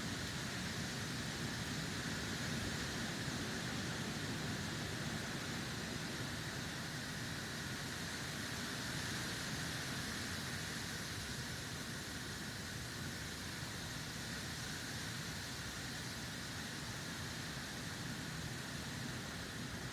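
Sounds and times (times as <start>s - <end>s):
snowstorm hiss: 0.0s - 19.9s.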